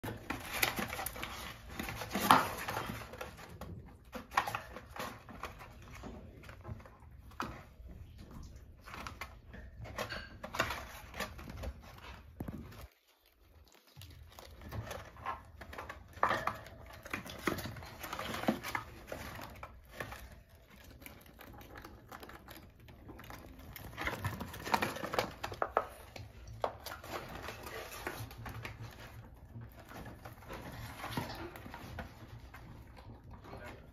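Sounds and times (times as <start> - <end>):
rats scrabbling on cardboard: 0.0 - 33.9.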